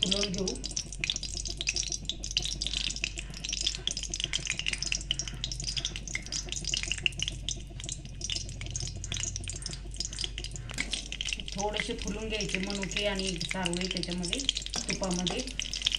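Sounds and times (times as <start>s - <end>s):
frying in hot oil sizzling: 0.0s - 15.9s
low hum: 0.0s - 15.9s.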